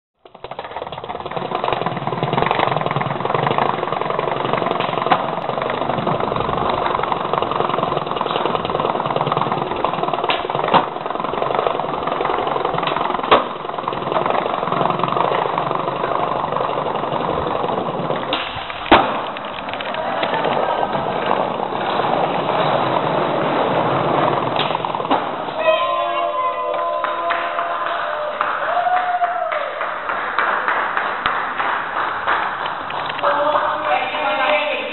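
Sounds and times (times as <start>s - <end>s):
skateboard clacks: 0.2s - 25.7s, 26.4s - 34.9s
skateboard wheels rolling: 0.2s - 34.7s.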